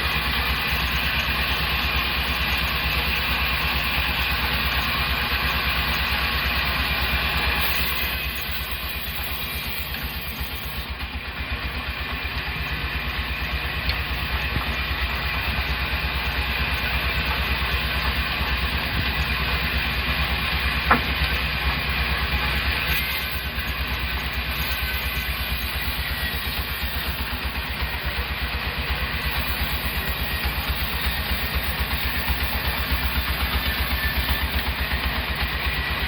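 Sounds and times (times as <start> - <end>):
machinery hissing: 0.0 - 36.0
sawmill engine throbbing: 0.0 - 36.0.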